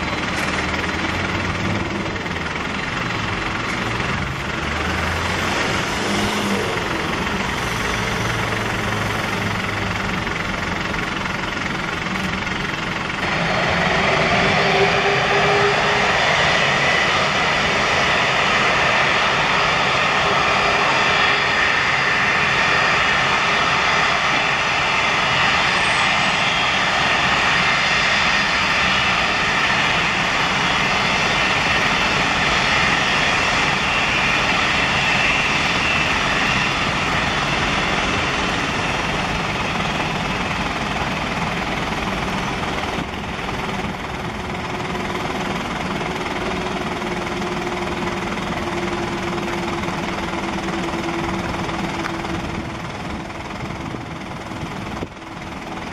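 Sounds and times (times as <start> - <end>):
jet engine roar: 0.0 - 55.9
jet engines spooling up: 0.0 - 55.9.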